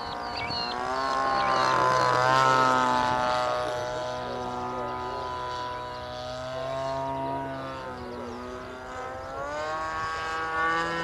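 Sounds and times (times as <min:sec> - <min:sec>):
model plane engine and propeller: 0:00.0 - 0:11.0.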